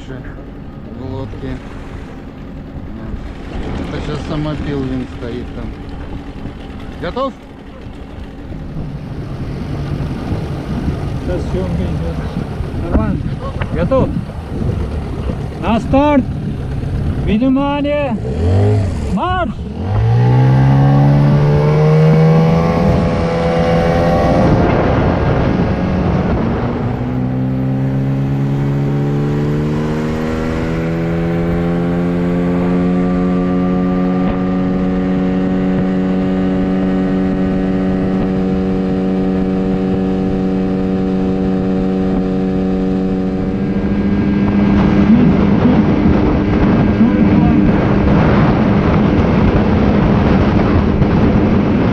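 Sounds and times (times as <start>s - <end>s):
outboard motor revving: 0.0s - 51.9s
rushing wind and water: 0.0s - 51.9s.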